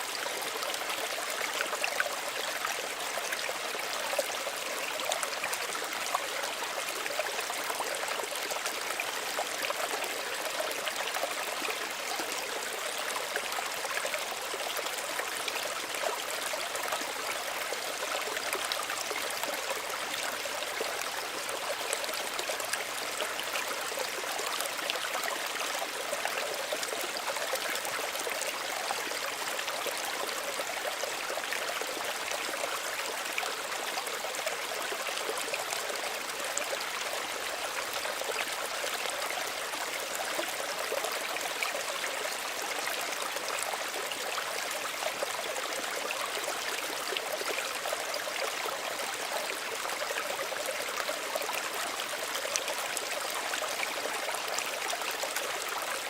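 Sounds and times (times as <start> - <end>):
stream trickling over stones: 0.0 - 56.0.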